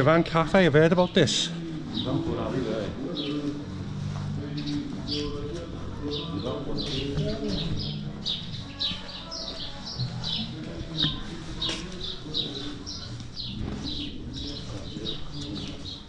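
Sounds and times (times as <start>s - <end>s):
low background murmur: 0.0s - 16.0s
small birds chirping: 0.2s - 16.0s.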